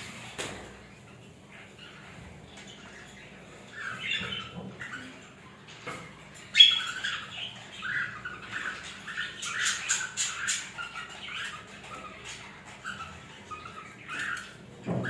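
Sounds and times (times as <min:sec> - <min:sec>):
lovebirds chirping and squawking: 0:00.0 - 0:15.0.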